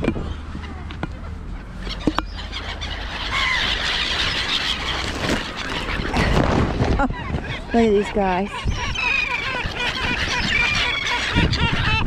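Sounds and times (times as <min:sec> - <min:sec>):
gulls squealing and calling: 0:01.7 - 0:12.0.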